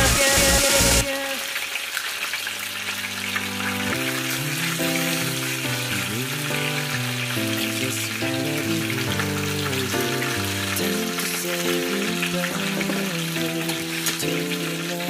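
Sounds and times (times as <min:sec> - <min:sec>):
pop music: 0:00.0 - 0:01.5, 0:03.9 - 0:15.0.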